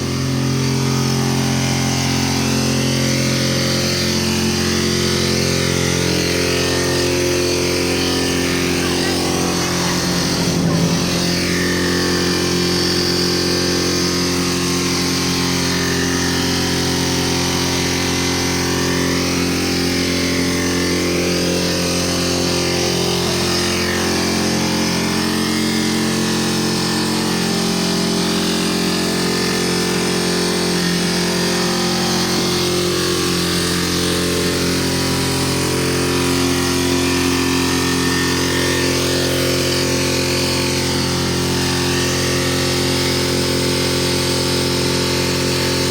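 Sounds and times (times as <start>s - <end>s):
diesel engine racing: 0.0s - 45.9s.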